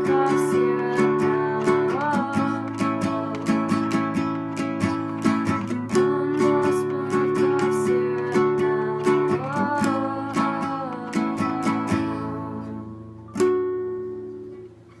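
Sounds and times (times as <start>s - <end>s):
acoustic string instrument strumming: 0.0s - 15.0s.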